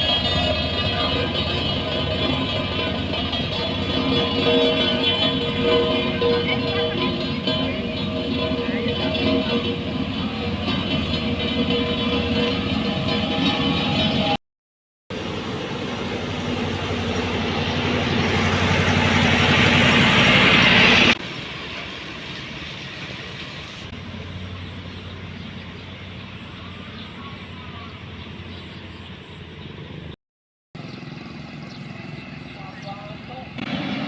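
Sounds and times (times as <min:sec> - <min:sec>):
heavy machinery engine running: 0:00.0 - 0:14.4, 0:15.1 - 0:30.2, 0:30.8 - 0:34.0
quieter machine engine: 0:00.0 - 0:14.4, 0:15.1 - 0:30.2, 0:30.8 - 0:34.0.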